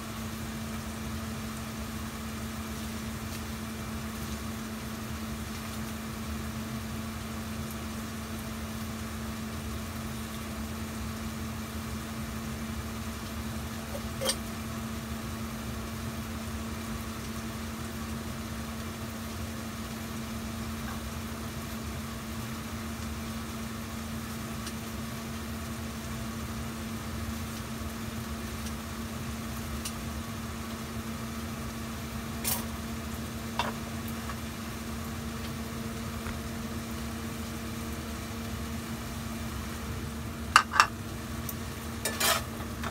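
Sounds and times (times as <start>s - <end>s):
gas burner hum and rumble: 0.0s - 42.9s.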